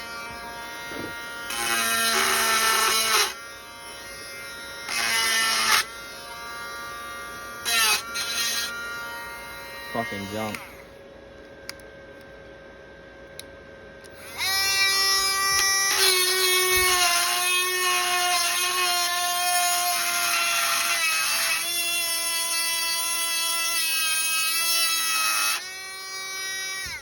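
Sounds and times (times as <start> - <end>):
rotary tool grinding metal: 0.0 - 10.8, 14.1 - 27.0.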